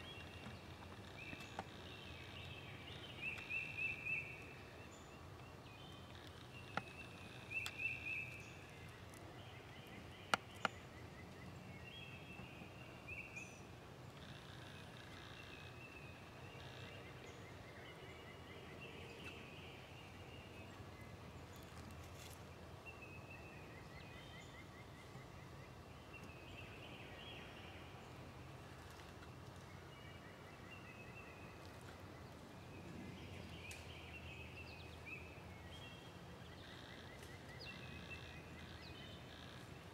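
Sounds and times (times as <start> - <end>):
birds calling and trilling: 0.0 - 22.4, 23.0 - 39.9.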